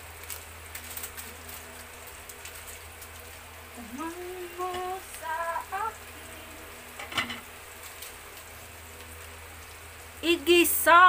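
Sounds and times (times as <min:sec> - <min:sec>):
ginger and onion sizzling: 0:00.0 - 0:11.0.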